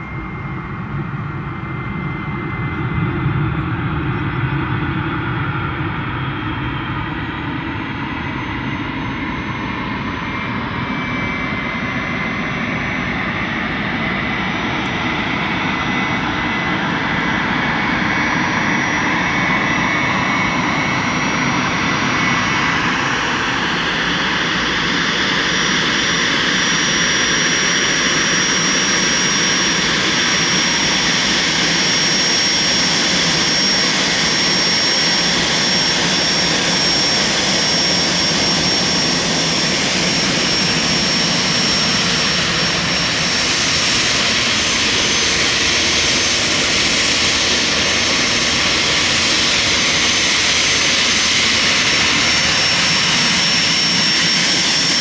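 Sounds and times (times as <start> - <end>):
jet engines whining and rushing: 0.0 - 55.0.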